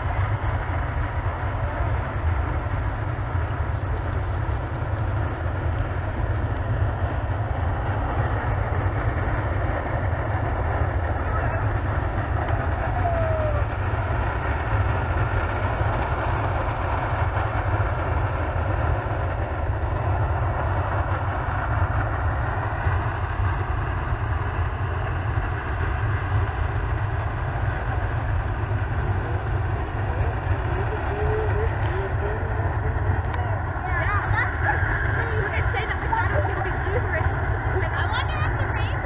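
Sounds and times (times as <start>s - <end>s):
geyser venting steam: 0.0s - 39.0s.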